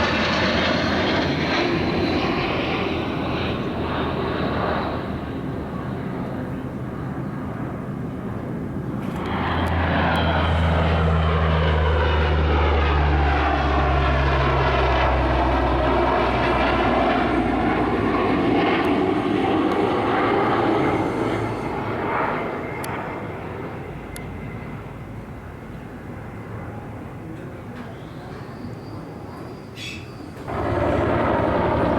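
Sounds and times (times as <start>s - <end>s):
propeller aircraft drone: 0.0s - 31.9s.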